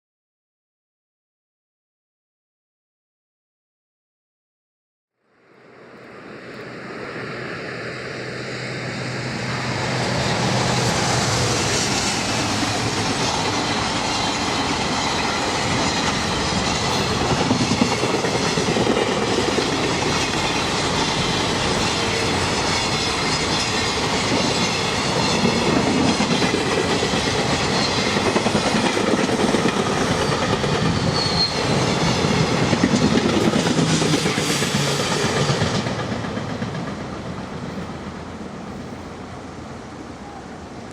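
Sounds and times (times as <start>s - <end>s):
electric locomotive passing: 5.3s - 40.9s.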